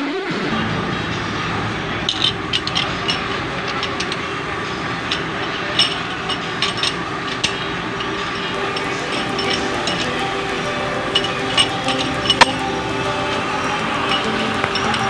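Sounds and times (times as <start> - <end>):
machinery running: 0.0 - 15.0
light metallic clinks: 0.6 - 15.0.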